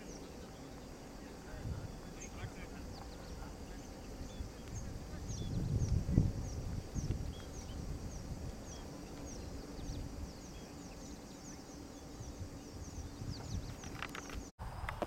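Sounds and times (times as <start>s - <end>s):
bird chirping: 0.0s - 14.5s
wind rumble on microphone: 1.3s - 15.0s.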